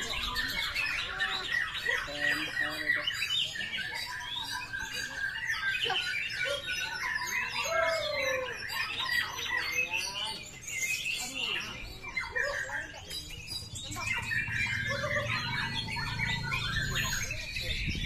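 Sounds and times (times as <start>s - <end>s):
many songbirds singing: 0.0s - 18.0s.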